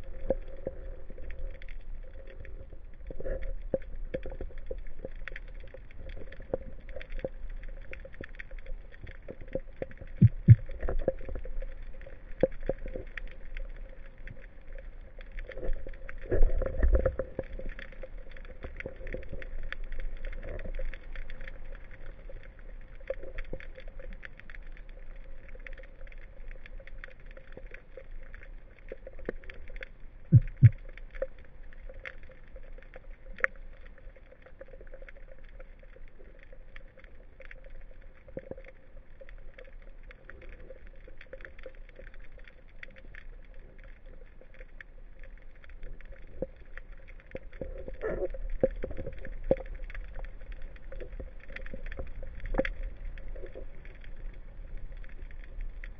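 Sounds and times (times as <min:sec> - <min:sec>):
crackling clicks: 0:00.0 - 0:55.9
underwater low rumble: 0:00.0 - 0:55.9.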